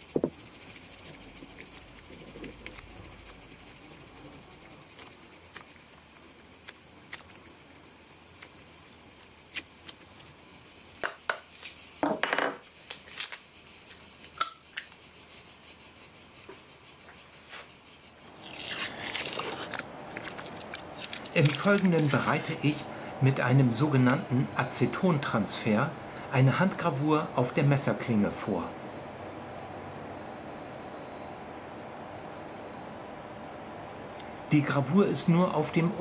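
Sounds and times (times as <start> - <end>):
steady high-pitched hiss: 0.0 - 36.0.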